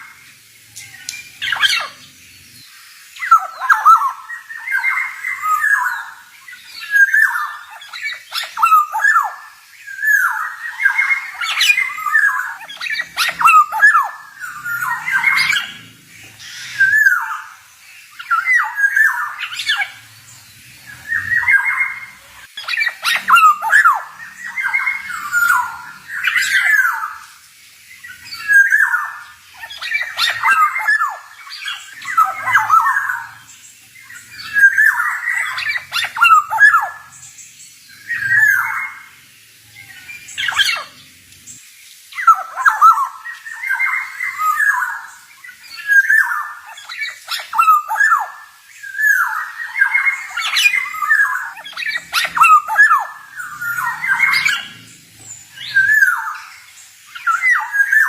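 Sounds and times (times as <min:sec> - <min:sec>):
bird singing whistled phrases: 0:03.2 - 0:20.1, 0:20.9 - 0:27.2, 0:28.0 - 0:33.4, 0:34.0 - 0:37.2, 0:42.2 - 0:58.0.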